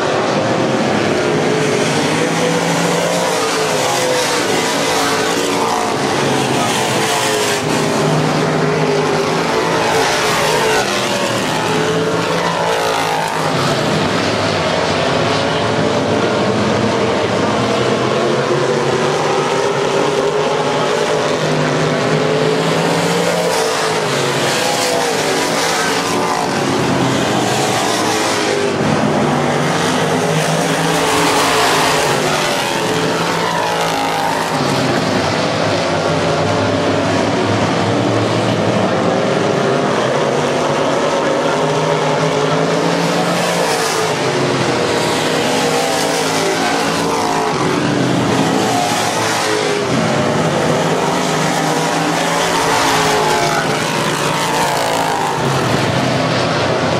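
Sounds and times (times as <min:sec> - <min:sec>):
stock car engines racing: 0:00.0 - 0:56.9.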